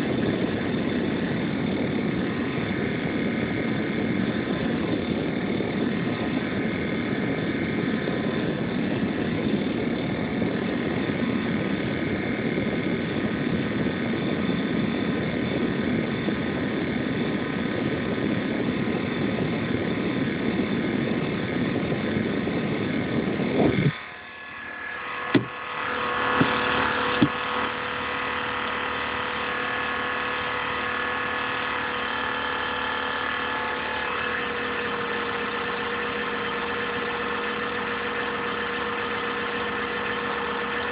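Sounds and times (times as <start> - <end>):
fan whir with faint whine: 0.0 - 40.9
laptop fan rough noise: 0.0 - 40.9.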